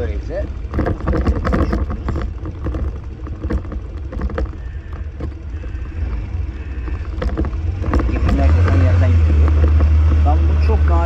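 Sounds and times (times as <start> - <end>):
motorcycle engine: 0.0 - 11.0
road noise: 0.0 - 11.0
wind rumbling on microphone: 0.5 - 11.0.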